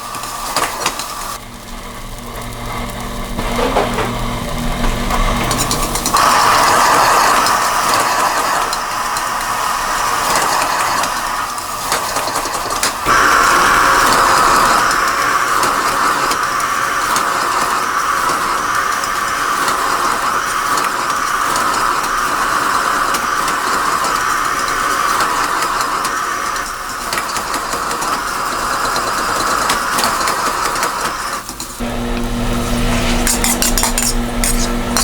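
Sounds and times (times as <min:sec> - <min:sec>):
rice sizzling in a wok: 0:00.0 - 0:35.0.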